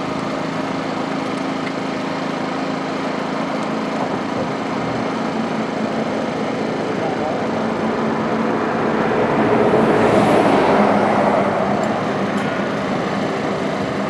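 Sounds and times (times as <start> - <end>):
small engine droning hum: 0.0 - 14.0.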